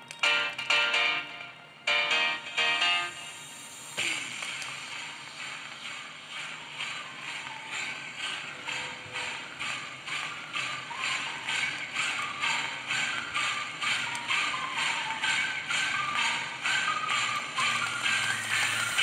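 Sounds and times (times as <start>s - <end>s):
music from small loudspeaker: 0.0s - 19.0s.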